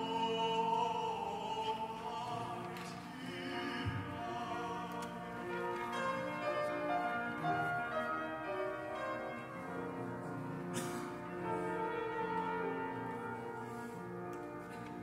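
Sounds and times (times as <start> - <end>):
slow piano piece: 0.0 - 15.0.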